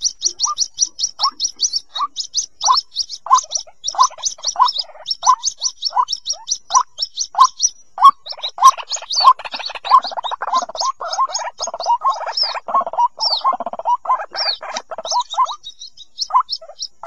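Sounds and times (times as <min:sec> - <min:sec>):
bird chicks peeping: 0:00.0 - 0:17.0.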